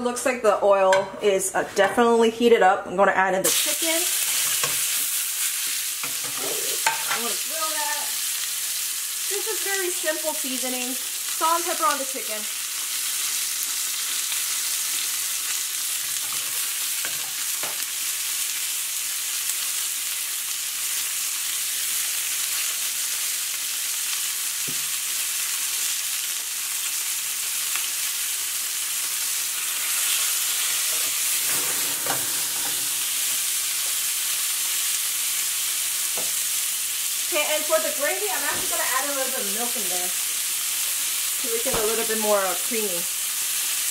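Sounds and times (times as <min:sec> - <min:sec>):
chicken frying in oil: 0:03.5 - 0:43.9.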